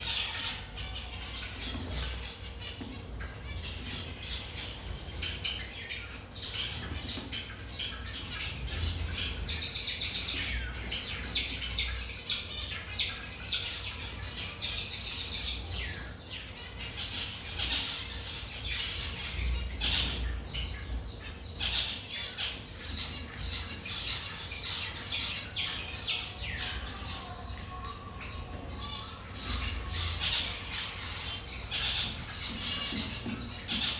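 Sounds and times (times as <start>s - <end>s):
birds chirping and squawking: 0.0s - 33.9s.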